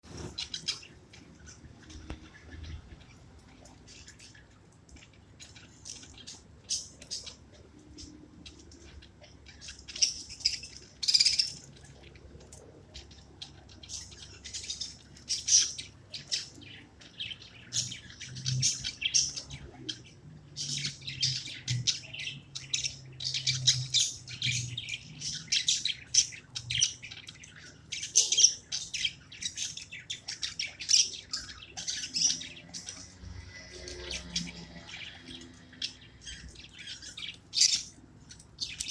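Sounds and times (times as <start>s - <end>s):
budgerigars chirping: 5.4s - 12.1s, 12.9s - 38.9s.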